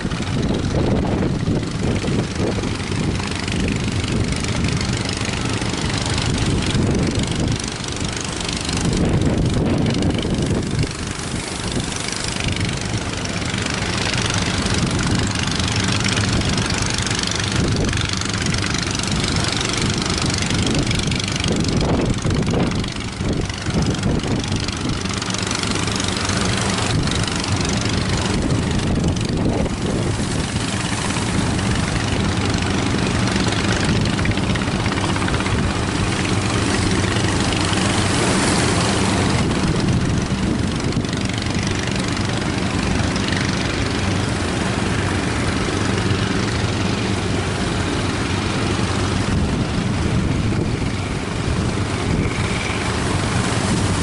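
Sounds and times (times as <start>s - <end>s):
boat engine running: 0.0s - 54.0s
wind and water rushing: 0.0s - 54.0s.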